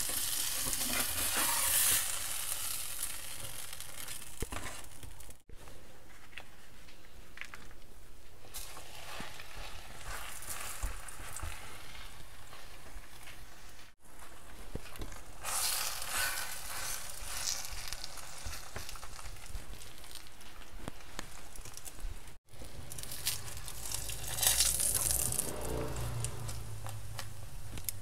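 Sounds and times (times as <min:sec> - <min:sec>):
flatbread sizzling in oil: 0:00.0 - 0:05.5, 0:08.4 - 0:25.8.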